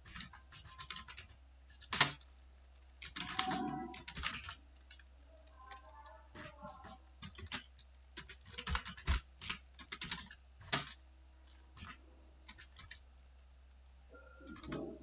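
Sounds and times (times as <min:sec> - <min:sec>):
computer keyboard typing: 0:00.0 - 0:02.3, 0:02.9 - 0:13.0, 0:14.1 - 0:15.0.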